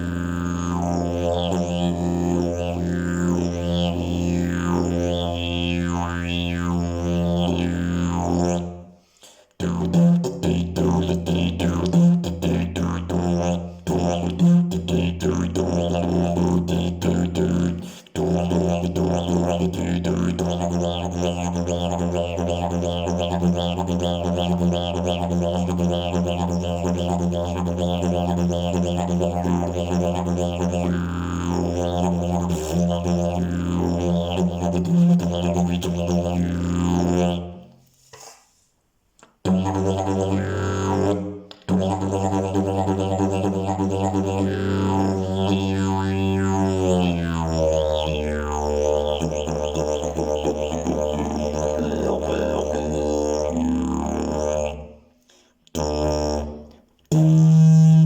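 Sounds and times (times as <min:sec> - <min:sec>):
didgeridoo drone: 0:00.0 - 0:08.7, 0:09.6 - 0:37.5, 0:39.5 - 0:54.9.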